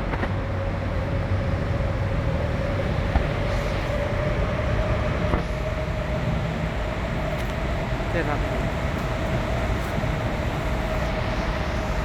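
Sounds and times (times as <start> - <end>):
engine whine: 0.0 - 12.0.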